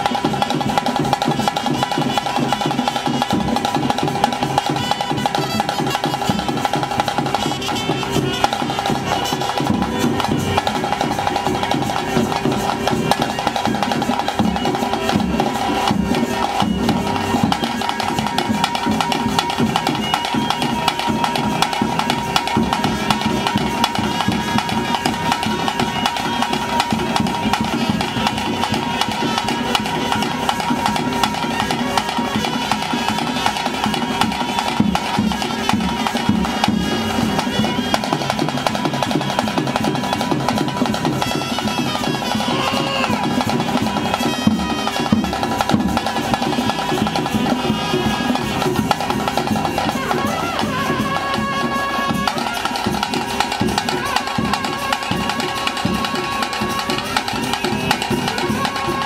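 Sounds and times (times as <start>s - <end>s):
fast continuous drumming: 0.0s - 59.0s
wind instrument held notes: 0.0s - 59.0s.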